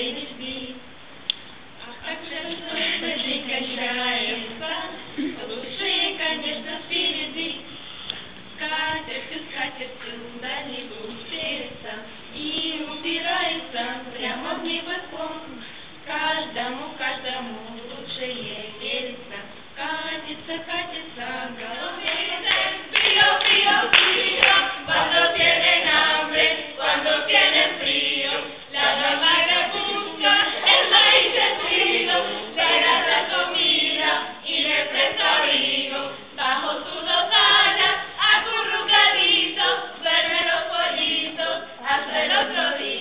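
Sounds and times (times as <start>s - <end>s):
young voices singing unaccompanied: 0.0s - 43.0s.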